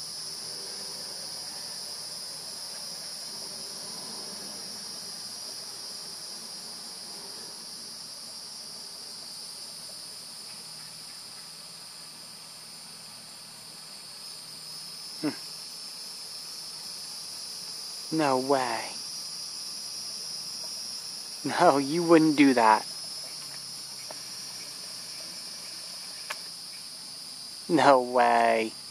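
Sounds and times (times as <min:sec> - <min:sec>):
insect chorus drone: 0:00.0 - 0:28.9.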